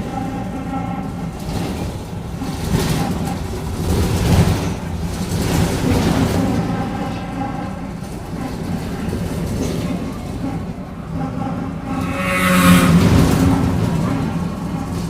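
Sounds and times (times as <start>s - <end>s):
bus engine and drivetrain: 0.0s - 15.0s.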